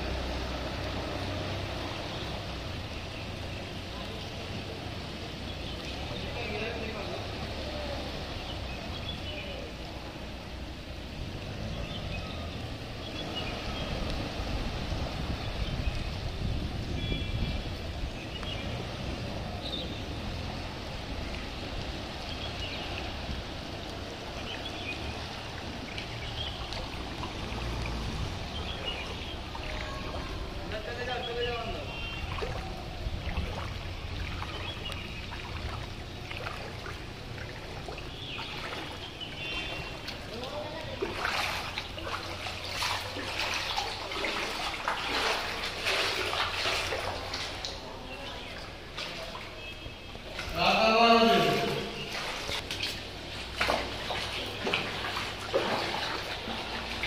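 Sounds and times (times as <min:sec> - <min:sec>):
flowing floodwater: 0:00.0 - 0:57.0.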